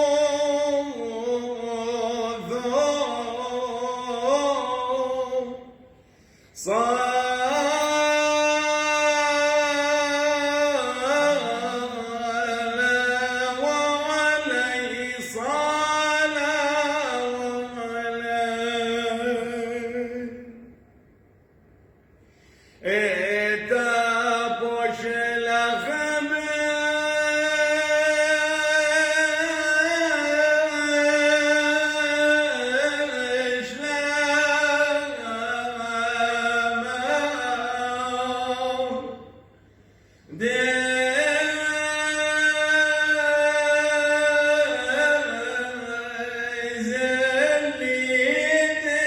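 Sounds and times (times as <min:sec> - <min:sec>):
man chanting a hymn: 0:00.0 - 0:05.8, 0:06.5 - 0:20.7, 0:22.8 - 0:39.5, 0:40.2 - 0:49.0.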